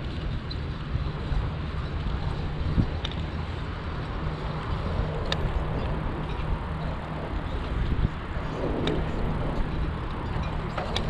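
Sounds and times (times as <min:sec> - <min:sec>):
bicycle rolling on concrete: 0:00.0 - 0:11.0
wind buffeting a microphone: 0:00.0 - 0:11.0.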